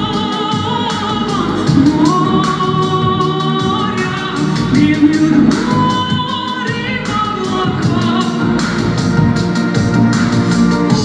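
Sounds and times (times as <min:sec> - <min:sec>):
instrumental song accompaniment: 0:00.0 - 0:11.0.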